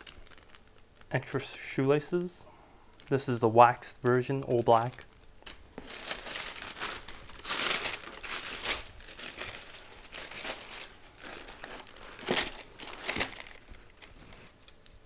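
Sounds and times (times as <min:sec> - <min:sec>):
packaging crinkling and rustling: 0:00.0 - 0:02.0, 0:02.9 - 0:15.0.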